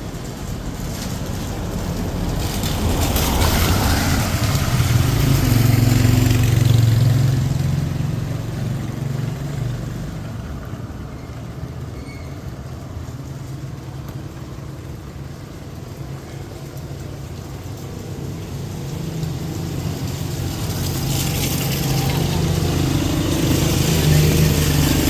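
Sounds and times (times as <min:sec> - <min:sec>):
rain hiss: 0:00.0 - 0:25.0
vehicle passing on wet street: 0:00.0 - 0:25.0.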